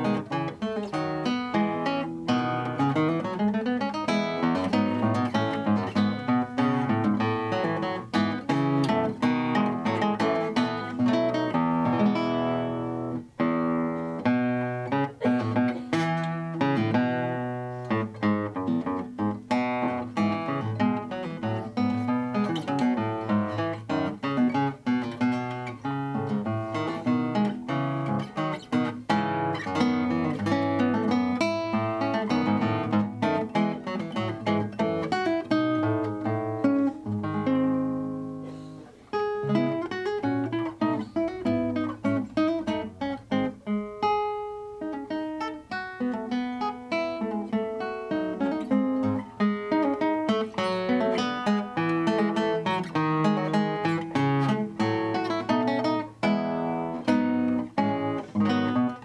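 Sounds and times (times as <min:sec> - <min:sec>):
classical guitar fingerstyle: 0:00.0 - 0:59.0.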